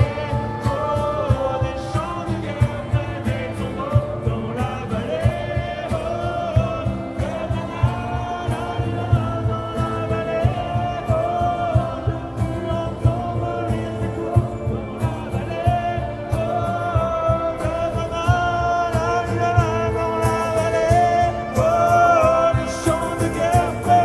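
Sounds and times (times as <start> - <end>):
live band playing: 0.0 - 24.0
person singing: 0.0 - 24.0
steady drum beat: 0.0 - 24.0.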